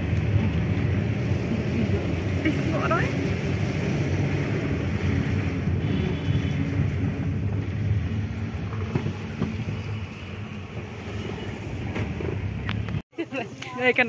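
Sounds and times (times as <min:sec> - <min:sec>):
car engine and road noise: 0:00.0 - 0:13.1.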